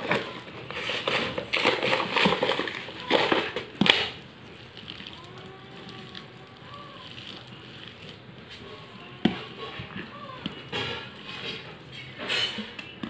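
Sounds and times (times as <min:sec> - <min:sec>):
wet squishing of potatoes mashed by hand: 0:00.0 - 0:13.0.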